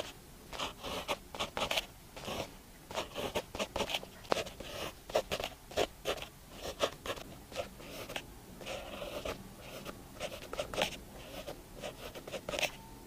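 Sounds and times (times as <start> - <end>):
pen scratching on paper: 0.0 - 12.8.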